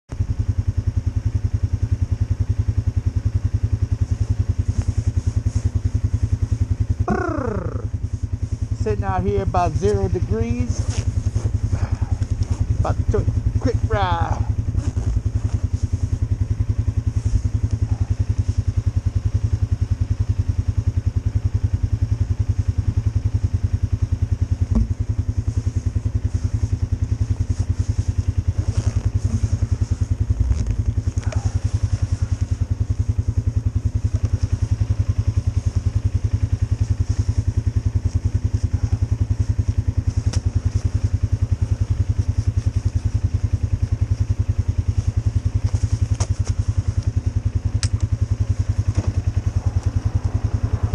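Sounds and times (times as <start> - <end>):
atv engine idling: 0.1 - 50.9.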